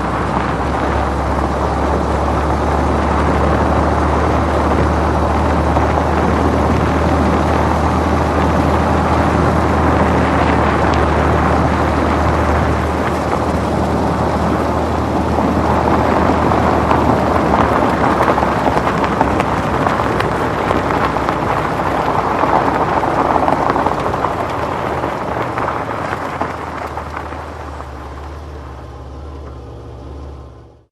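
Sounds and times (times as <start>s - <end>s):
tyres crunching on snow: 0.0s - 29.6s
car engine hum: 0.0s - 30.9s.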